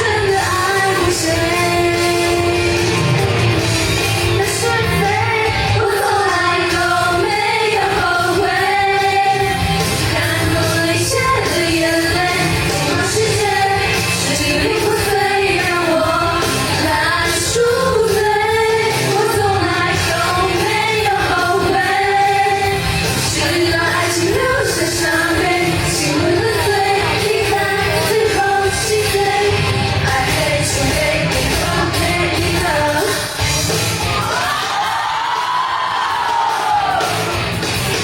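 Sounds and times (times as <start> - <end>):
woman singing pop ballad: 0.0 - 3.2, 4.2 - 33.4.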